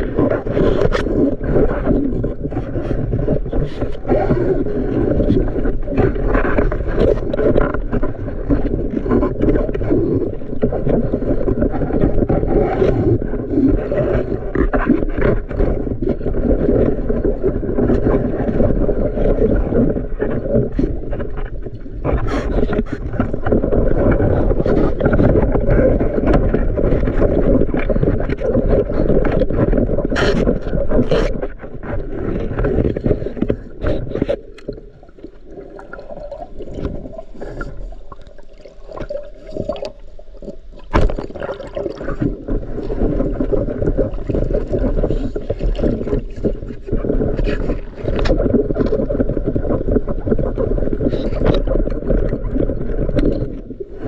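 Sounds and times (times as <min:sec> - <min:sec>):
muffled rush of water underwater: 0:00.0 - 0:54.0.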